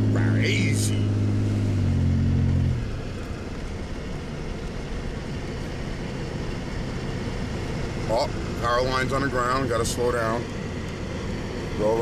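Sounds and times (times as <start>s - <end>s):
low rumble of truck rolling: 0.0s - 12.0s
truck engine humming: 0.0s - 12.0s.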